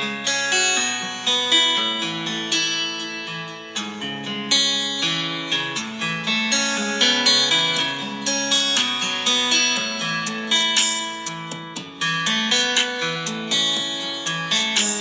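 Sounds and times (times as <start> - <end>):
plucked guitar-like ringtone: 0.0 - 15.0.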